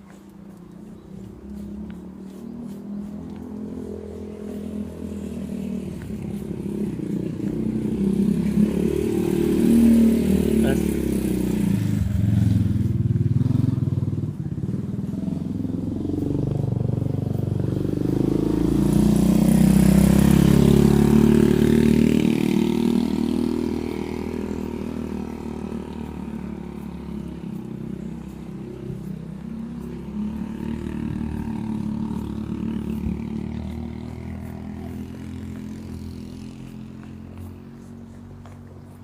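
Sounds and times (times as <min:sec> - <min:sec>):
motorcycle engines passing: 0:00.0 - 0:39.0.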